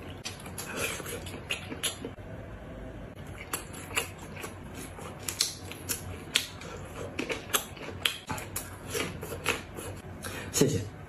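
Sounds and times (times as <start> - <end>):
chewing crunchy food: 0.0 - 2.2, 3.2 - 10.0.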